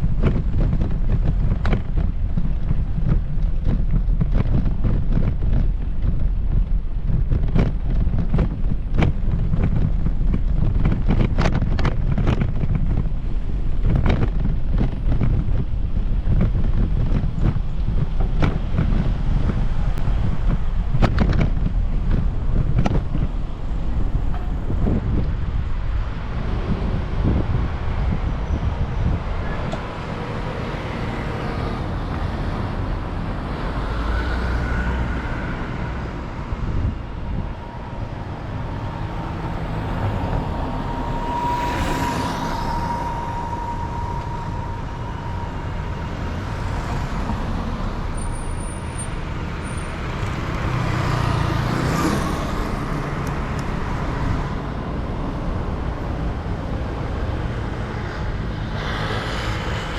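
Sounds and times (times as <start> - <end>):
vehicles passing: 0.0 - 59.9
wind rumble on microphone: 0.0 - 59.9.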